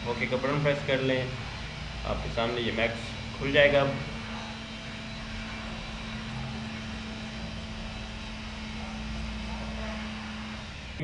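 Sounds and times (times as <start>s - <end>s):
background hum and hiss: 0.0s - 11.0s
constant low tone: 0.0s - 11.0s.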